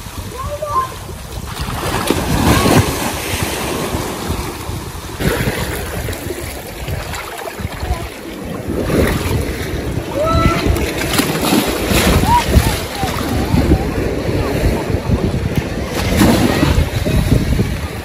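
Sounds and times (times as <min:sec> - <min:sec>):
sea waves washing against seawall: 0:00.0 - 0:18.0
wind buffeting microphone: 0:00.0 - 0:18.0.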